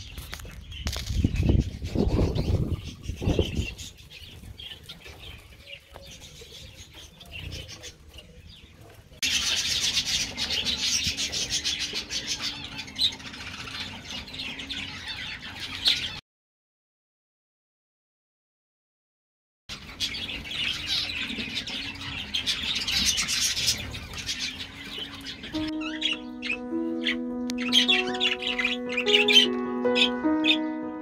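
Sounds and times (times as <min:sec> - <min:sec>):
birds chirping and chattering: 0:00.0 - 0:16.2, 0:19.7 - 0:31.0.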